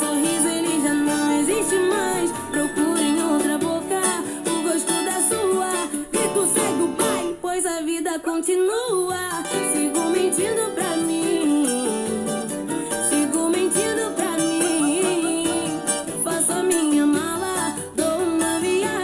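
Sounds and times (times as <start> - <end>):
small guitar strummed in chords: 0.0 - 7.6, 9.3 - 19.0
pop backing track with beat: 0.0 - 7.7, 9.0 - 19.0
wordless singing: 0.0 - 19.0.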